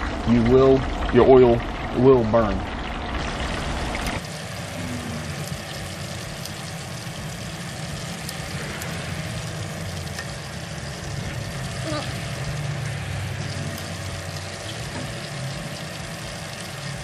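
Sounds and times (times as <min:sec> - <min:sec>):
deep-frying sizzle with crackling: 0:00.0 - 0:17.0.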